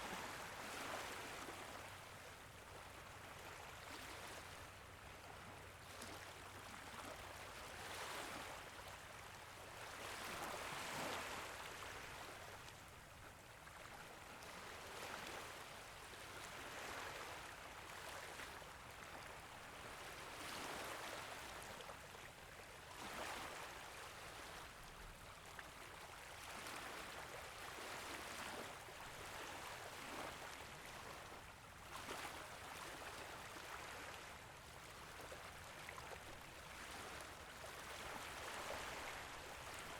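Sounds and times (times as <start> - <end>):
small waves lapping on a beach: 0.0 - 39.9.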